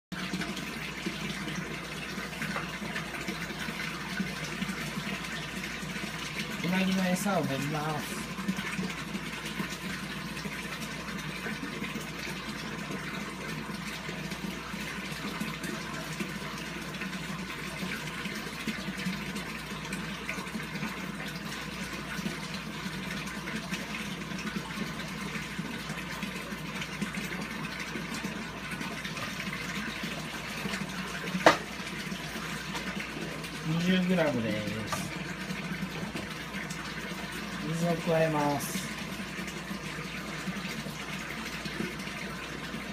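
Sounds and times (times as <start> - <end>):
running water rushing: 0.1 - 42.9.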